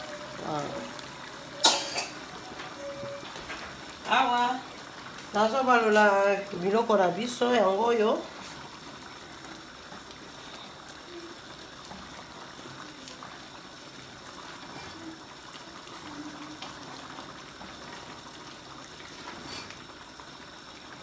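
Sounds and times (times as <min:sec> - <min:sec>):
stew bubbling in a pot: 0:00.0 - 0:21.0.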